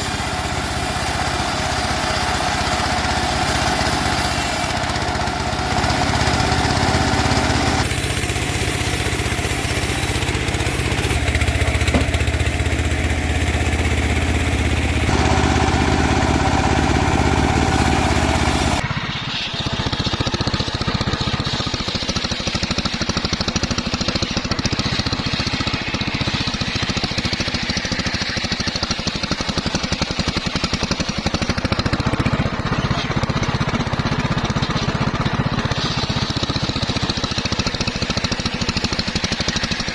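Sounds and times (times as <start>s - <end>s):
band saw mill engine drone: 0.0s - 39.9s.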